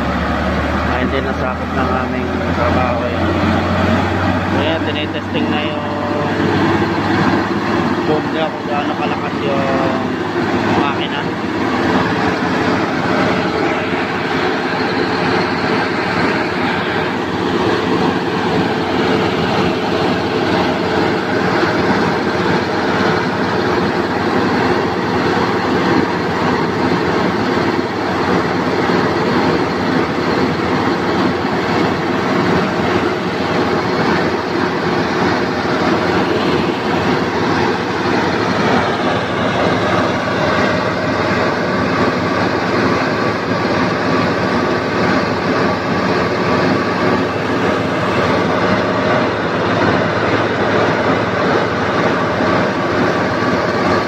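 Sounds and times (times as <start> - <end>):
crane diesel engine and hydraulics: 0.0 - 54.0.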